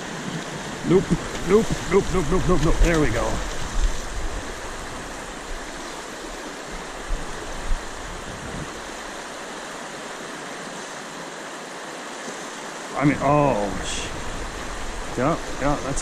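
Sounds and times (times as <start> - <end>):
river water running over rocks: 0.0 - 16.0.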